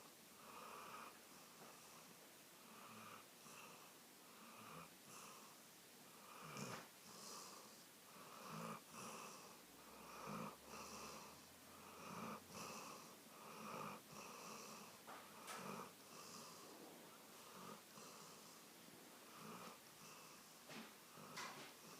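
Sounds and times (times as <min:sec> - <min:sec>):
dog snoring softly: 0:00.4 - 0:21.9.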